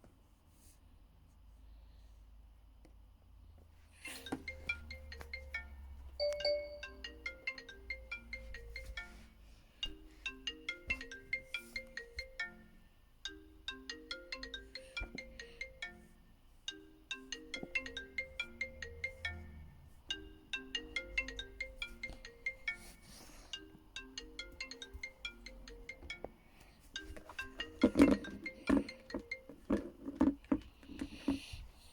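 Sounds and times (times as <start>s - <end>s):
phone ringtone melody: 4.1s - 30.0s.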